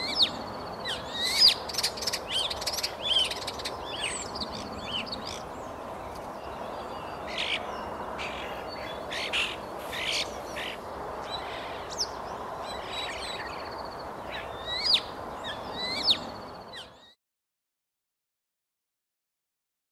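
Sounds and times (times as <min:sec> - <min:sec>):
starling singing: 0:00.0 - 0:05.6, 0:06.4 - 0:17.1
steady background noise: 0:00.0 - 0:17.0.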